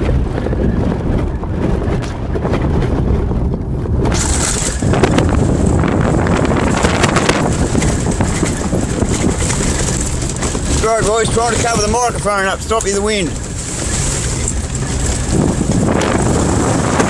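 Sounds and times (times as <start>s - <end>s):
vehicle rumble: 0.0s - 17.0s
wind buffeting microphone: 0.0s - 17.0s.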